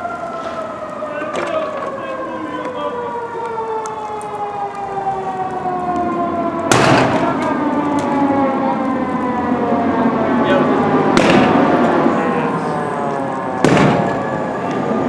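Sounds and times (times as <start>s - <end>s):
fire engine siren winding down: 0.0s - 15.0s.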